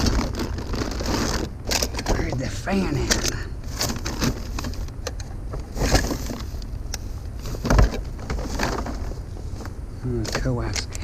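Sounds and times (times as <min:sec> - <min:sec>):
junk clattering: 0:00.0 - 0:06.7, 0:07.4 - 0:11.0.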